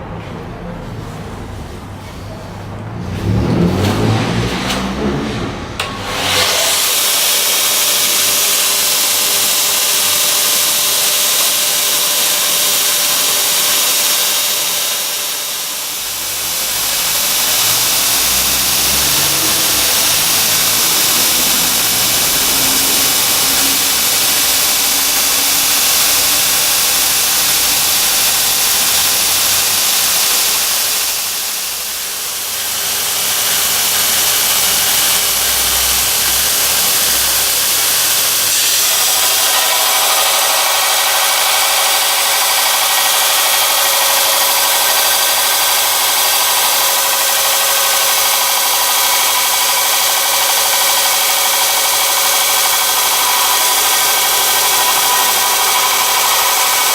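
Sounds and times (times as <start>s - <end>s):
belt grinder hissing: 5.8s - 56.9s.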